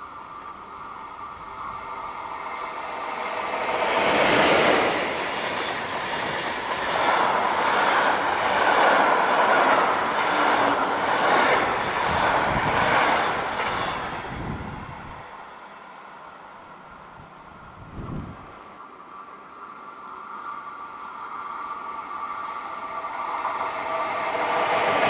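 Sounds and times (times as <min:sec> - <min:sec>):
train wheels rumbling on rail: 0:00.0 - 0:18.7, 0:21.7 - 0:25.0.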